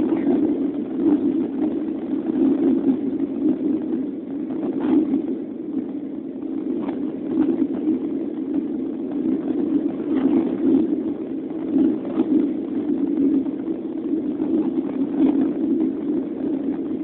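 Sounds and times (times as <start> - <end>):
aircraft cabin engine drone: 0.0 - 17.0.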